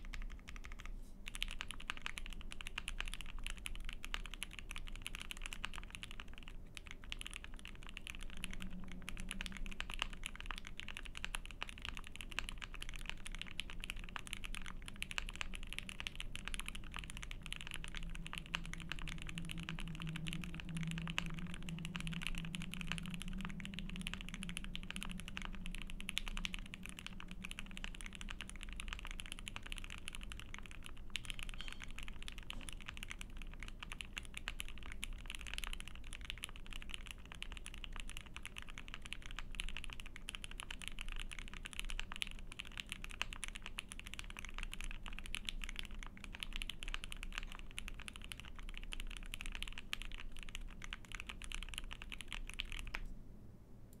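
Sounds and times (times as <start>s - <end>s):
typing on mechanical keyboard: 0.0s - 53.1s.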